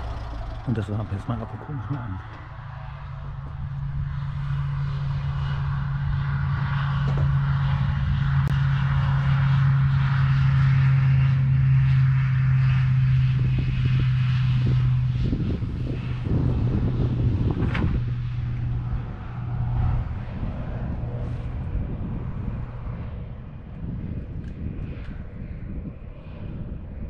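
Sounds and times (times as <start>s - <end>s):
propeller plane engine droning: 0.0s - 27.0s.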